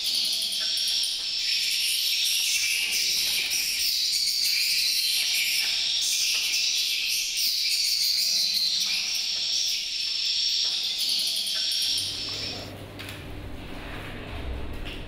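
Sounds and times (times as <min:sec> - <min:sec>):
swiftlets chirping and twittering: 0:00.0 - 0:12.7.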